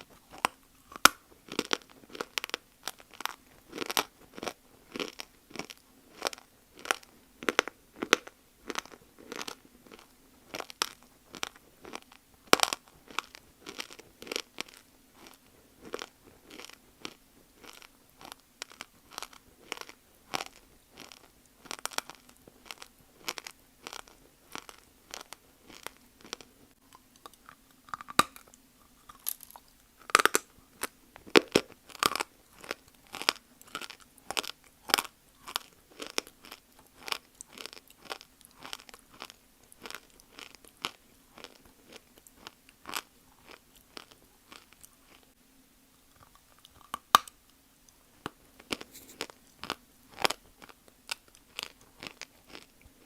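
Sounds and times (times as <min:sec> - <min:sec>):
crunchy chewing of dry clay: 0:00.0 - 0:45.4, 0:46.0 - 0:47.3, 0:47.9 - 0:53.0.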